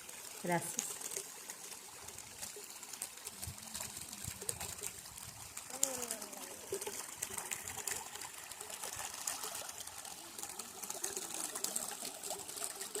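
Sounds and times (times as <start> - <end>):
stream babbling over stones: 0.0 - 13.0.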